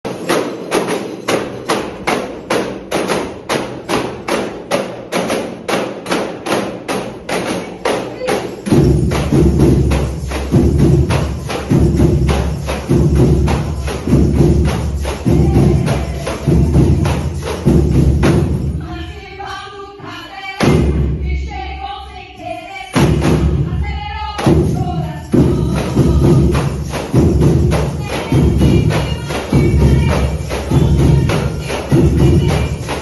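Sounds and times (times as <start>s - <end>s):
hand percussion steady beat: 0.0s - 19.5s, 20.6s - 21.6s, 22.4s - 33.0s.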